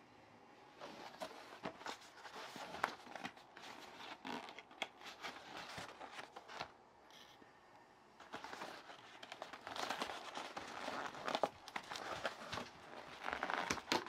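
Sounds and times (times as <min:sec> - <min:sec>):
packaging rustling and crinkling: 0:00.8 - 0:06.8, 0:08.2 - 0:14.0.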